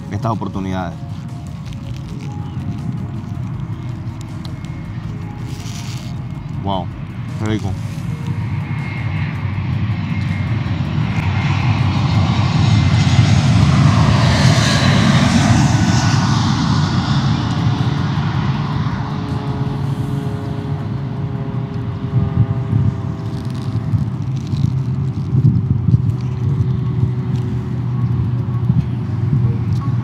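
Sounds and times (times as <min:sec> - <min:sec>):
airplane passing overhead: 0:00.0 - 0:30.0.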